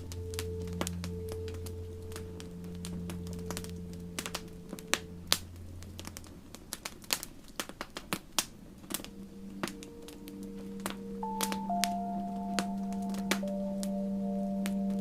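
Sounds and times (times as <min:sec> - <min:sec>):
low music tones: 0:00.0 - 0:07.2, 0:08.9 - 0:15.0
campfire crackling and popping: 0:00.0 - 0:14.0
soft held music tones: 0:00.0 - 0:15.0.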